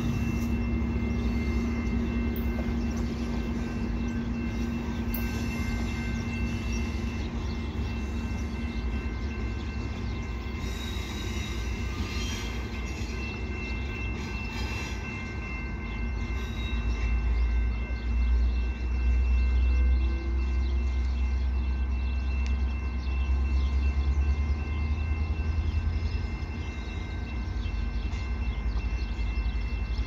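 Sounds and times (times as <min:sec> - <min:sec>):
train rumbling: 0:00.0 - 0:30.0
wheels rattling on rails: 0:00.0 - 0:30.0.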